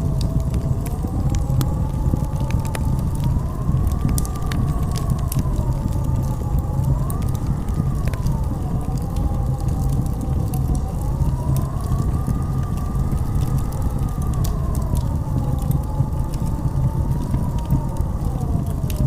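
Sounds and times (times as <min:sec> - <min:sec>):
blizzard wind howling: 0:00.0 - 0:19.0
sharp crackles: 0:00.0 - 0:19.0.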